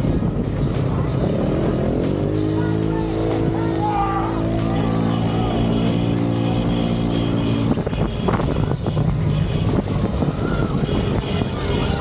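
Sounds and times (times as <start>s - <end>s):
background music: 0.0s - 12.0s
bike rolling noise and wind: 0.0s - 12.0s.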